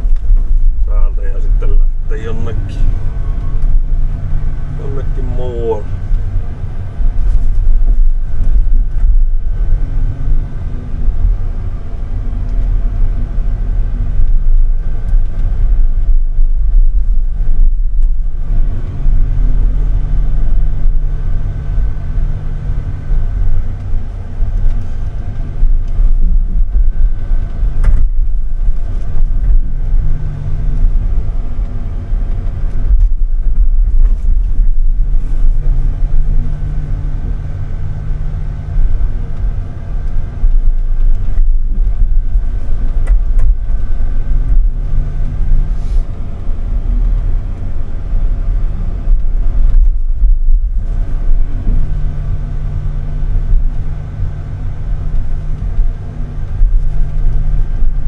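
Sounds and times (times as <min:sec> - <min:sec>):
diesel engine rumbling under load: 0:00.0 - 0:58.0.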